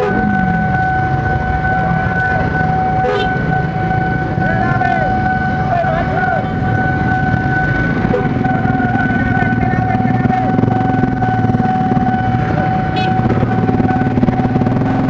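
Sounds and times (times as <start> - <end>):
level crossing warning alarm: 0.0 - 15.0
motorcycle engines idling: 0.0 - 15.0.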